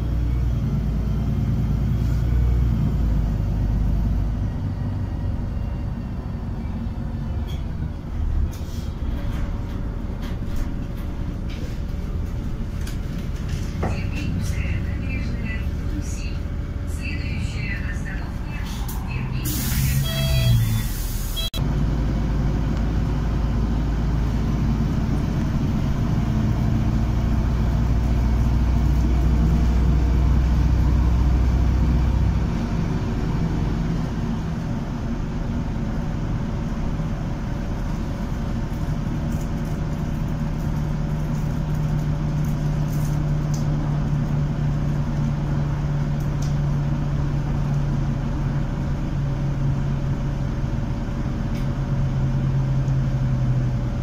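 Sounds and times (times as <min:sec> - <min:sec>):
bus engine drone: 0:00.0 - 0:54.0
road and rattle noise: 0:00.0 - 0:54.0.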